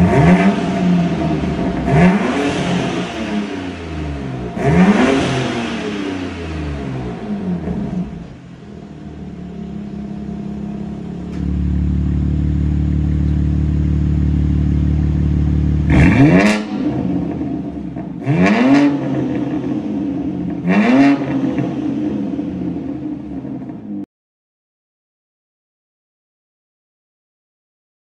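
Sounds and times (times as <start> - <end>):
car engine idling: 0.0 - 24.0
engine revving: 0.0 - 24.0.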